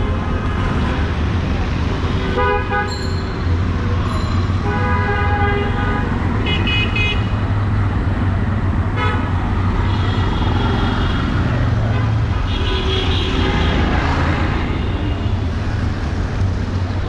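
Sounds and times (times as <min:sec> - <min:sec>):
street traffic engines: 0:00.0 - 0:17.0.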